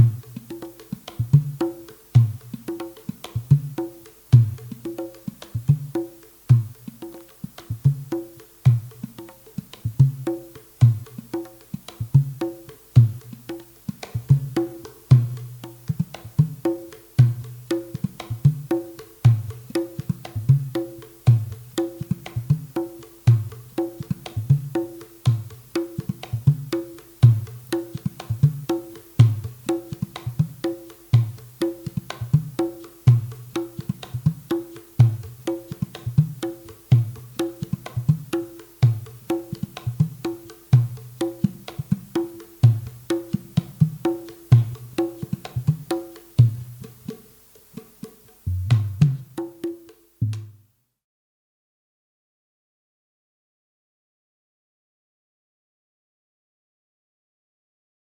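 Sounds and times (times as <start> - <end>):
hand drum rhythm: 0.0 - 50.7.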